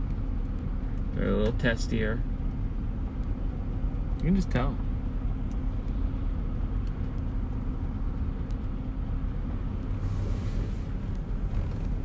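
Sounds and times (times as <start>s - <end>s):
car engine rumble: 0.0s - 12.0s
tyres on road: 0.0s - 12.0s.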